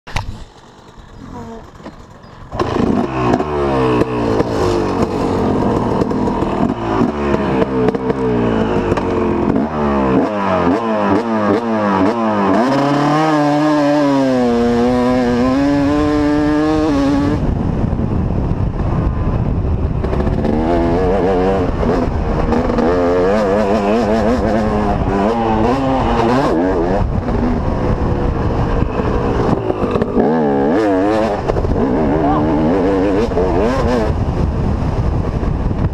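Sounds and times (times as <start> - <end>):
motorbike engine revving: 0.1 - 35.9.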